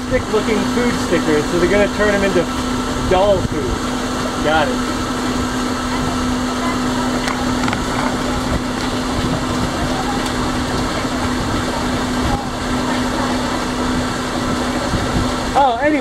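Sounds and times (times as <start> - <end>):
electric boat motor humming: 0.0 - 16.0
water noise: 0.0 - 16.0
wind: 0.0 - 16.0.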